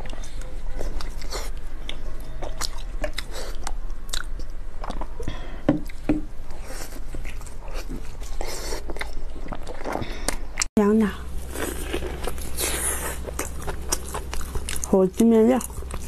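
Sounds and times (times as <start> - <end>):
person chewing meat: 0.0 - 10.7, 11.3 - 16.0.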